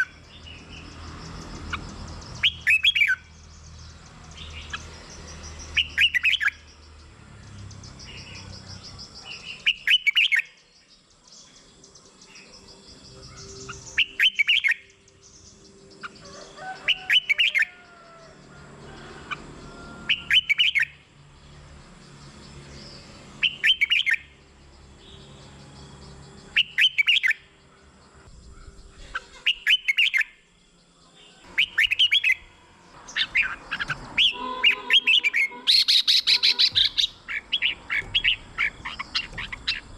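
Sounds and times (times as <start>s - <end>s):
bulbul warbling song: 0.0s - 17.8s, 20.1s - 21.0s, 23.3s - 24.3s, 26.3s - 27.6s, 28.2s - 30.5s, 31.3s - 39.9s.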